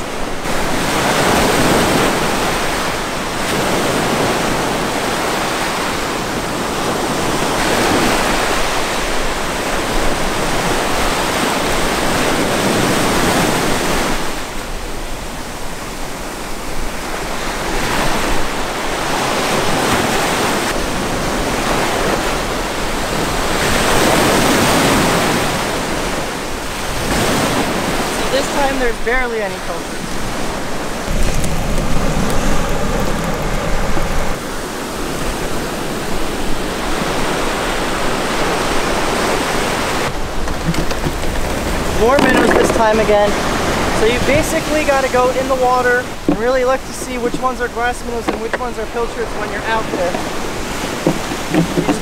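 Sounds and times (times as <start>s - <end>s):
ocean surf breaking on beach: 0.0s - 52.0s.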